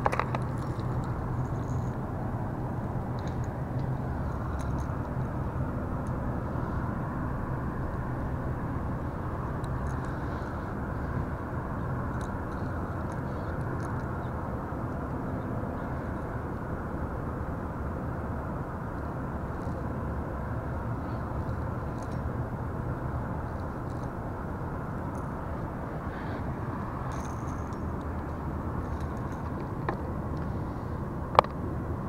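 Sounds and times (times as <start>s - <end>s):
low outdoor rumble with hum: 0.0s - 32.0s.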